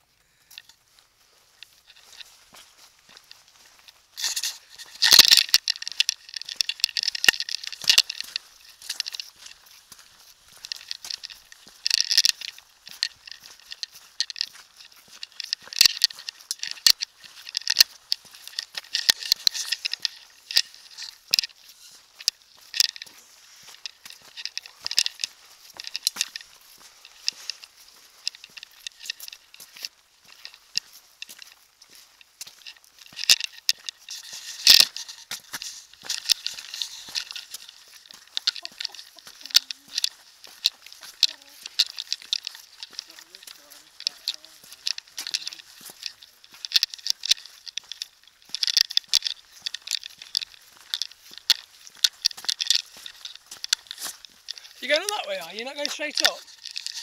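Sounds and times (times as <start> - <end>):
footsteps crunching on gritty path: 0.0 - 57.0.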